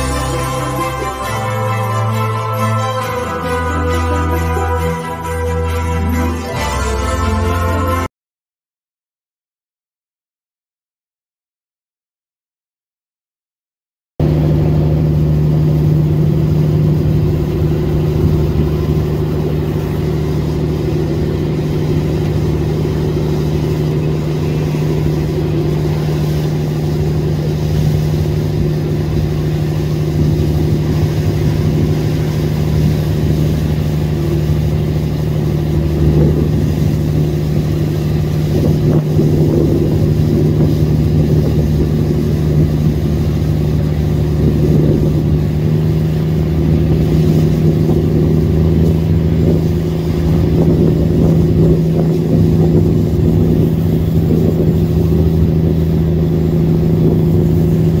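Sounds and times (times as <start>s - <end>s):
boat engine droning: 0.0s - 8.1s, 14.2s - 58.0s
water rushing along hull: 0.0s - 8.1s, 14.2s - 58.0s.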